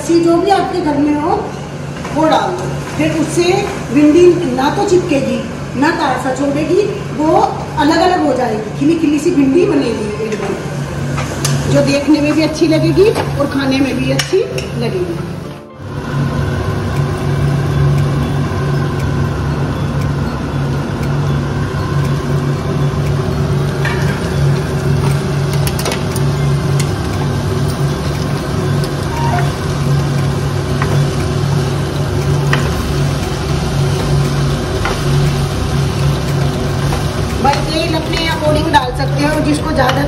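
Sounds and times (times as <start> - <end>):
low machine hum: 0.0 - 40.0.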